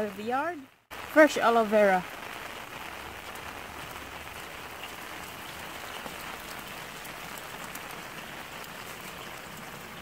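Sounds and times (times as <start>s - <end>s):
rain on gravel and concrete: 0.0s - 10.0s
single raindrops ticking: 0.0s - 10.0s.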